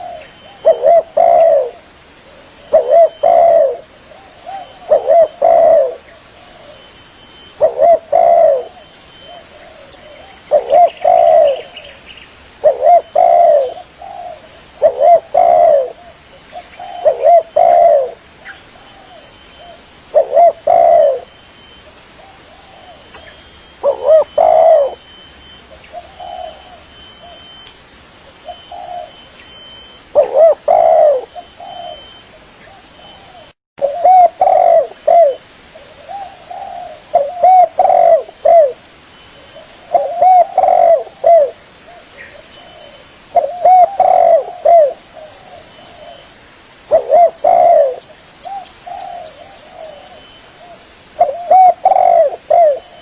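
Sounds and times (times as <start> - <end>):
dove cooing: 0.0 - 12.0, 12.6 - 27.6, 28.4 - 38.8, 39.4 - 46.3, 46.9 - 53.0.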